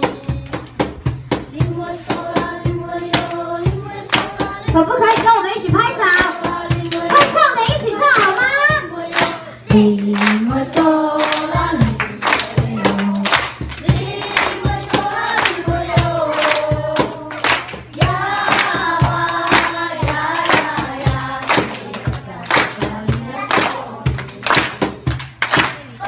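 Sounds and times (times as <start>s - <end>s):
children's choir singing: 0.0s - 0.8s, 1.5s - 25.1s
hands clapping to a beat: 0.0s - 1.1s, 3.1s - 5.4s, 6.1s - 26.0s.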